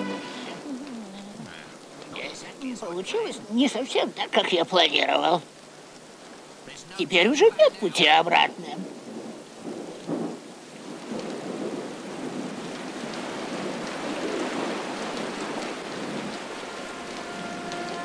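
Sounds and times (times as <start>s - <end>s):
thunder rumbling: 0.0s - 3.6s, 6.6s - 18.0s
heavy rain pouring: 0.0s - 18.0s.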